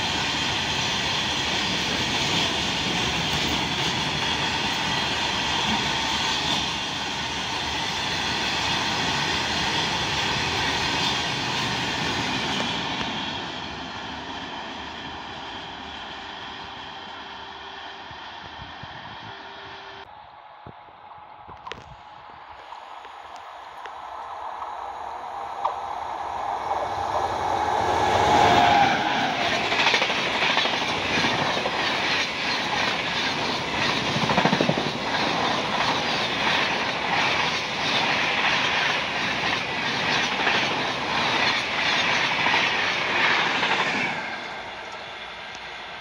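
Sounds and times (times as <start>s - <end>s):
train rushing past: 0.0s - 20.1s, 22.4s - 46.0s.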